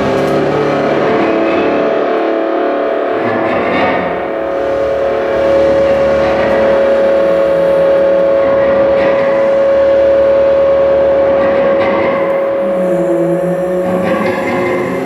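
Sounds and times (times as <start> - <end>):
sustained electronic drone: 0.0 - 15.0.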